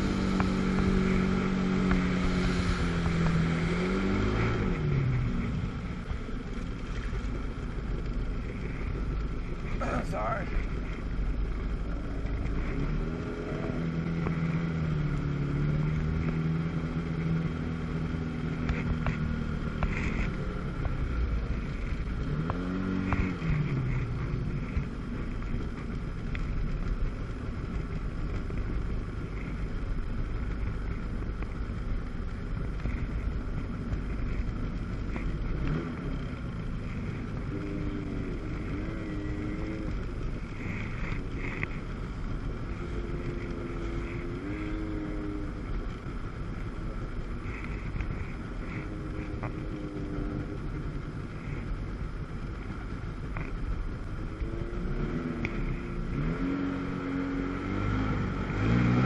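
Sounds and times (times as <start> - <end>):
jet ski engine running: 0.0 - 17.6, 18.4 - 56.2.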